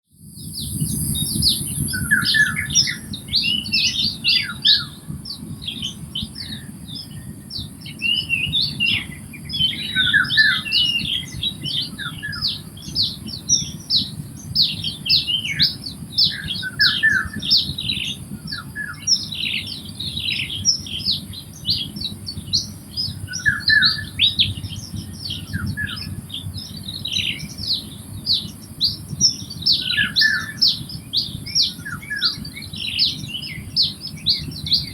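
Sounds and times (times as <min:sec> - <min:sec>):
birds chirping and squawking: 0:00.8 - 0:34.9.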